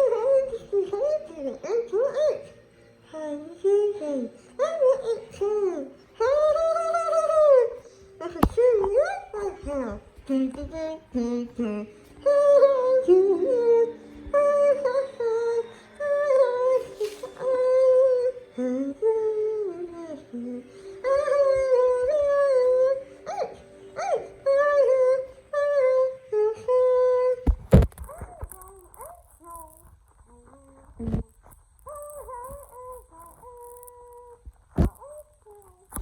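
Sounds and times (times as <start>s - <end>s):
person humming a tune: 3.1s - 36.0s.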